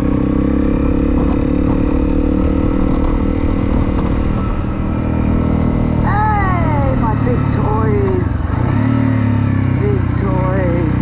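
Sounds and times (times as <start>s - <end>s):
motorcycle engine running: 0.0s - 11.0s
low rumble: 0.6s - 11.0s.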